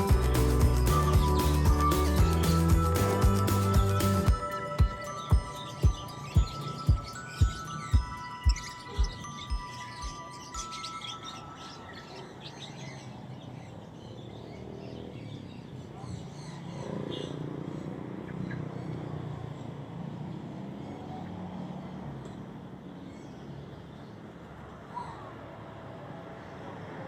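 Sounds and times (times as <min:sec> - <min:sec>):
small birds chirping: 0:00.0 - 0:25.3
street traffic hum: 0:00.0 - 0:27.0.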